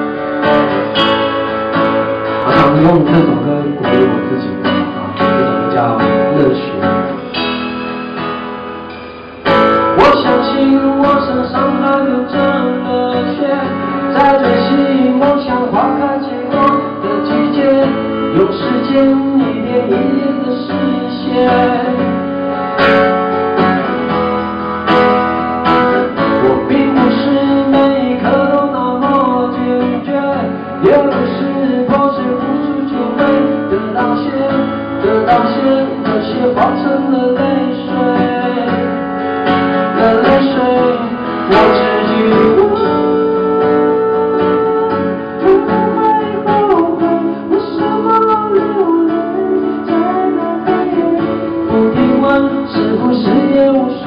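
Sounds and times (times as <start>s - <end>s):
acoustic guitar strumming: 0.0s - 54.0s
man singing: 2.1s - 7.6s, 9.5s - 22.3s, 25.6s - 54.0s.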